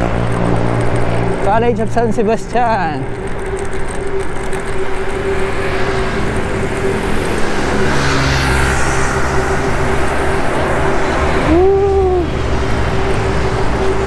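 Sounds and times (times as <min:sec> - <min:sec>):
road traffic noise: 0:00.0 - 0:14.0
steady hum: 0:00.0 - 0:14.0
vehicle engine passing close: 0:00.0 - 0:14.0.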